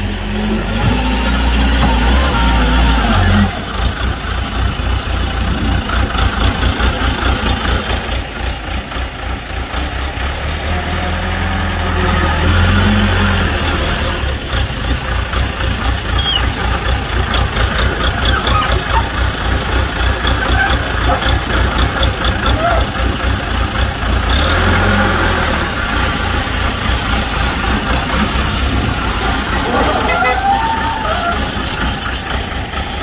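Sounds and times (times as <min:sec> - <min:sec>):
wheel loader engine throbbing: 0:00.0 - 0:33.0.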